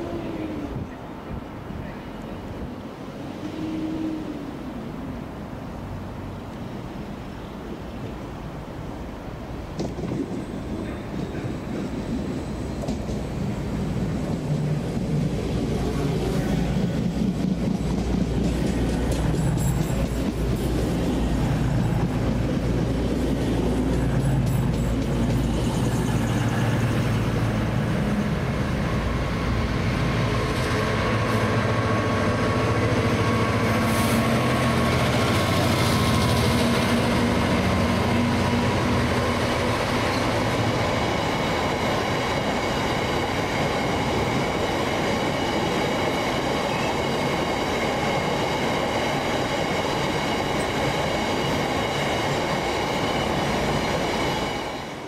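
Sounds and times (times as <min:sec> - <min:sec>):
freight train running on rails: 0:00.0 - 0:55.0.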